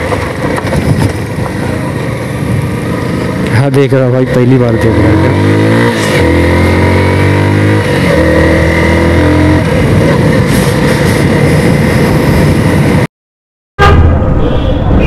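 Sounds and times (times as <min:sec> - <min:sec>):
rushing noise: 0:00.0 - 0:13.1, 0:13.8 - 0:15.0.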